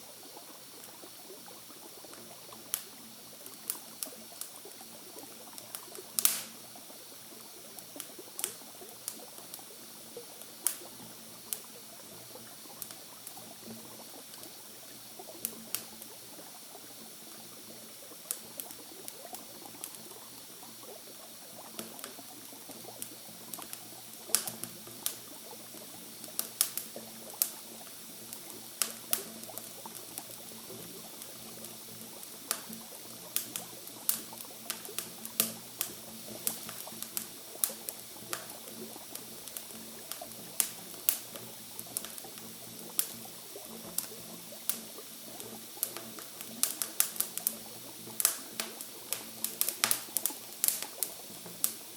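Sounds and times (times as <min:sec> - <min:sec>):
campfire crackling and popping: 0:00.0 - 0:51.9
water trickling: 0:00.0 - 0:51.9.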